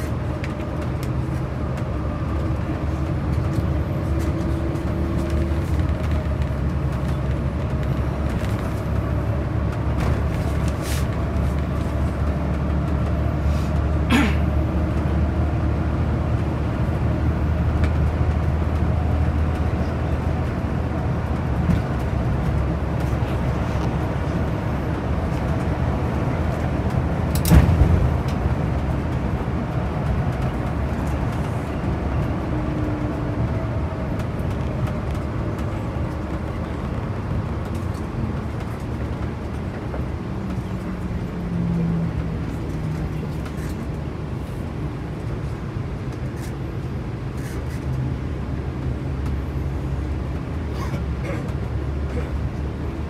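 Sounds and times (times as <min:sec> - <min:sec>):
bus engine and road noise: 0:00.0 - 0:53.0.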